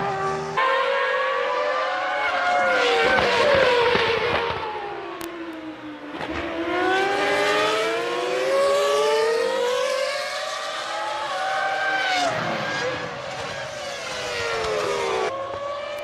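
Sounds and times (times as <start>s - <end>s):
racing car engine at high revs: 0.0s - 16.0s.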